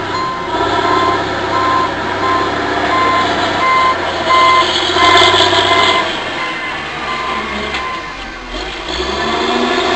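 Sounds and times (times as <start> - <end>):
reversing alarm beeping: 0.0 - 8.4
diesel engine running: 0.0 - 9.9.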